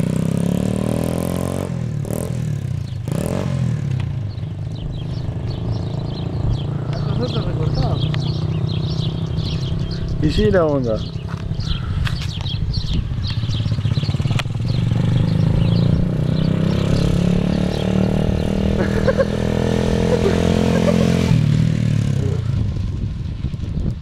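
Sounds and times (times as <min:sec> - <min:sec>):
small motorcycle engine passing: 0:00.0 - 0:24.0
birds chirping: 0:02.0 - 0:22.8.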